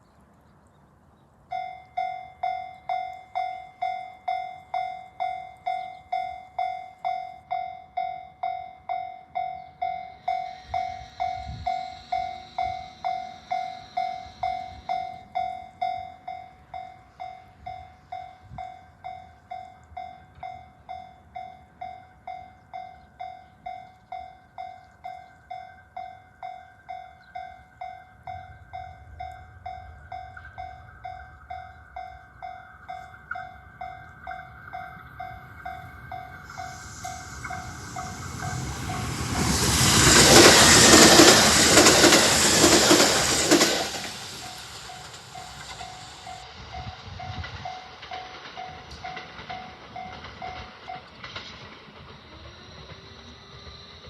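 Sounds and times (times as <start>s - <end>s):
level crossing warning bell: 1.5s - 51.1s
train rushing past: 1.5s - 54.0s.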